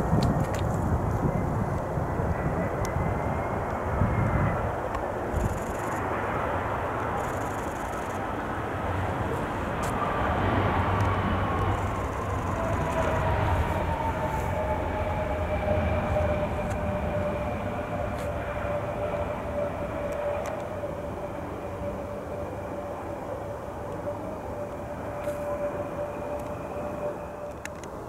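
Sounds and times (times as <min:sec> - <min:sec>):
jet airliner rushing and rumbling: 0:00.0 - 0:28.0
jet engine whine falling in pitch: 0:00.0 - 0:28.0.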